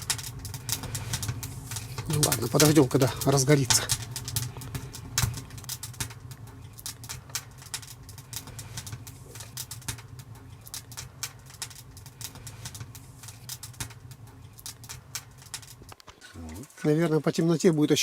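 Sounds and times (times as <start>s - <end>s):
steady low hum: 0.0s - 16.7s
firewood crackling in stove: 0.0s - 18.0s.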